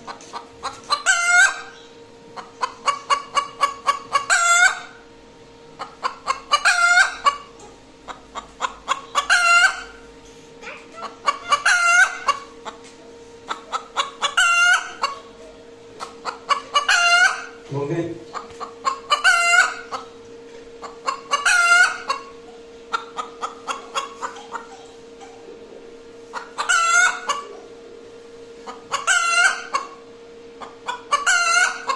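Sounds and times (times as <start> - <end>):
hen cackling and squawking: 0.0 - 1.8, 2.4 - 5.0, 5.8 - 15.4, 16.0 - 17.6, 18.3 - 20.2, 20.8 - 25.6, 26.2 - 27.8, 28.6 - 31.9.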